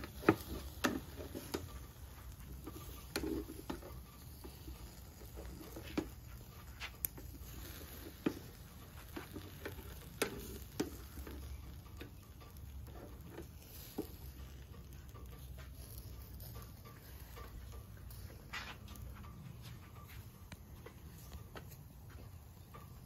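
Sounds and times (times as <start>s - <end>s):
fat crackling on hot coals: 0.0s - 23.0s.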